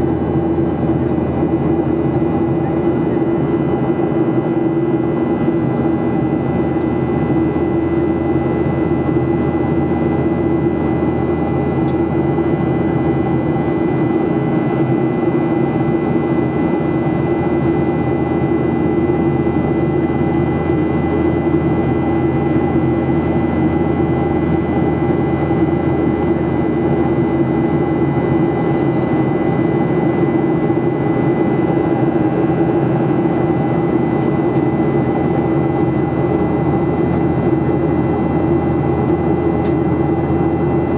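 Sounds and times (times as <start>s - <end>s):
high engine whine: 0.0s - 40.9s
jet engines droning: 0.0s - 40.9s.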